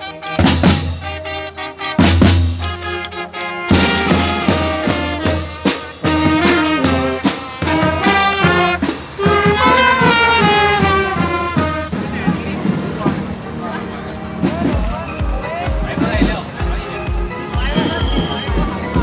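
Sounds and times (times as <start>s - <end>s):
upbeat brass music with drums: 0.0s - 19.0s.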